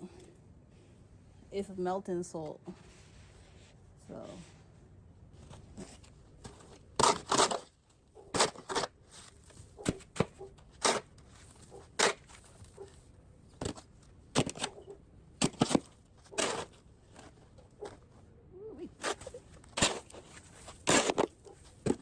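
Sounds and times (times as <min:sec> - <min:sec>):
crunches and scrapes in snow: 0:02.4 - 0:14.8, 0:15.5 - 0:18.2, 0:18.8 - 0:22.0.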